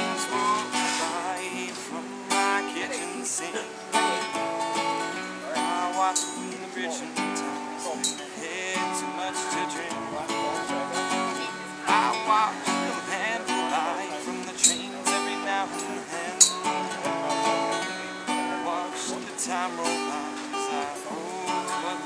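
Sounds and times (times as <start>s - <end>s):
acoustic guitar strummed and picked: 0.0s - 22.0s.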